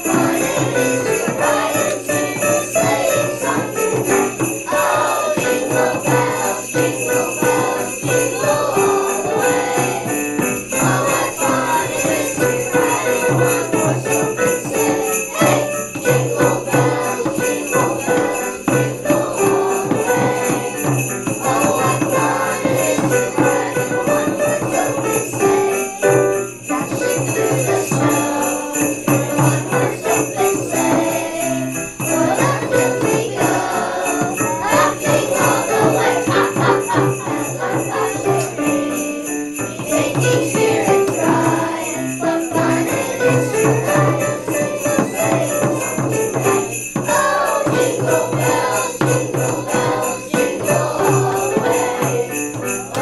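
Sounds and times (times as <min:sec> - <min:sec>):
bells jingling: 0:00.0 - 0:53.0
children singing: 0:00.0 - 0:53.0
upright piano: 0:00.0 - 0:53.0.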